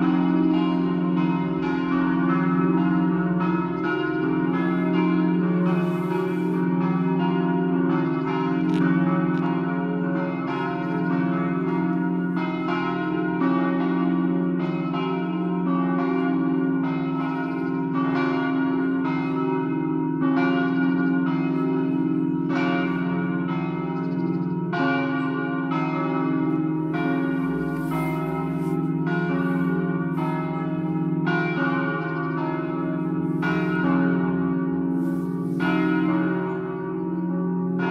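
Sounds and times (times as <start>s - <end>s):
church bells ringing a peal: 0.0s - 37.9s
low hum from bells: 0.0s - 37.9s.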